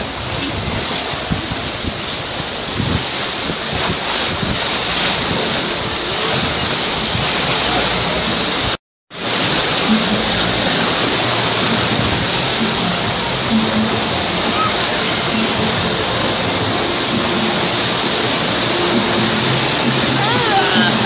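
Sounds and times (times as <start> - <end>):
rushing white water: 0.0 - 21.0.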